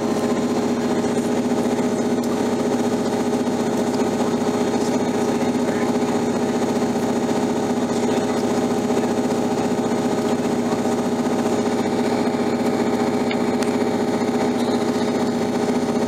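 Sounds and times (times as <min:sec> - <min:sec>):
train engine running: 0:00.0 - 0:16.0.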